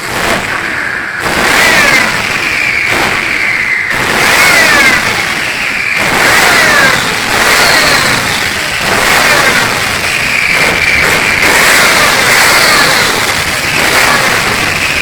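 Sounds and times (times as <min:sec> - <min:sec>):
diesel truck engine revving: 0:00.0 - 0:15.0.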